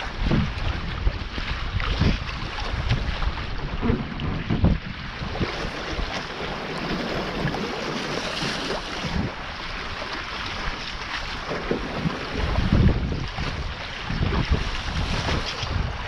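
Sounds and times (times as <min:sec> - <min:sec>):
water rushing along hulls: 0:00.0 - 0:16.0
wind buffeting microphone: 0:00.0 - 0:16.0.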